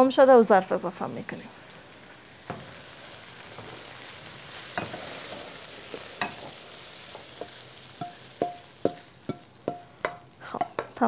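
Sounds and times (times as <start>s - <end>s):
pan sizzling: 0.0s - 11.0s.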